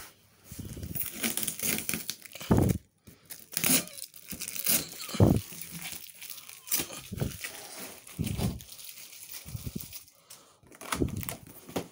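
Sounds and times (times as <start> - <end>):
packing tape ripping off cardboard: 0.7 - 11.9.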